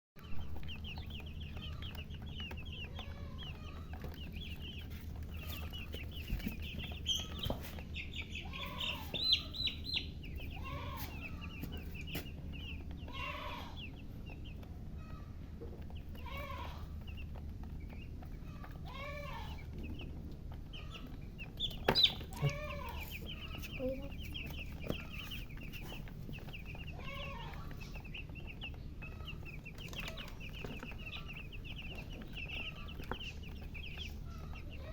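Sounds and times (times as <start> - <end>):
baby chicks peeping: 0.2 - 34.9
hen clucking: 0.2 - 34.9
steady low hum: 0.2 - 34.9.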